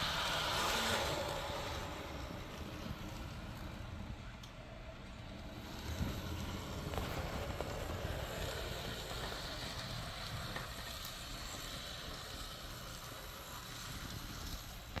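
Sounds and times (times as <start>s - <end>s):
model train motor whirring: 0.0s - 15.0s
steady hiss: 0.0s - 15.0s.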